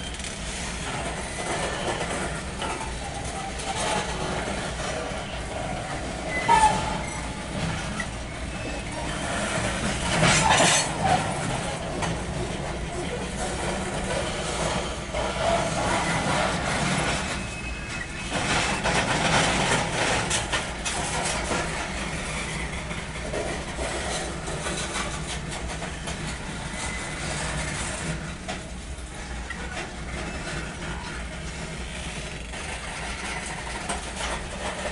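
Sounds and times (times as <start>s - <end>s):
freight train wheels rumbling: 0.0s - 34.9s
wheels clicking and clattering: 0.0s - 34.9s.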